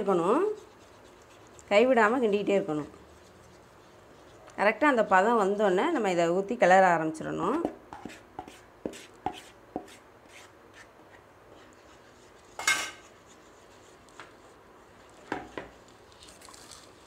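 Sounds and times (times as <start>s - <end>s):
batter being stirred: 0.0s - 17.0s.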